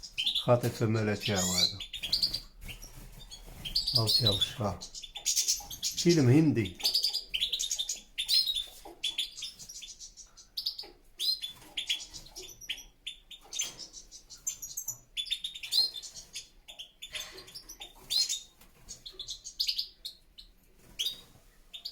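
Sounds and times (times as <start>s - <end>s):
goldfinches twittering: 0.0s - 21.9s.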